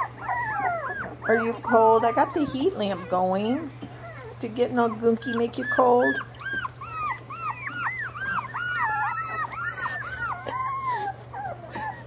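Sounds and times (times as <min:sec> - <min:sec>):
puppies whining: 0:00.0 - 0:12.0.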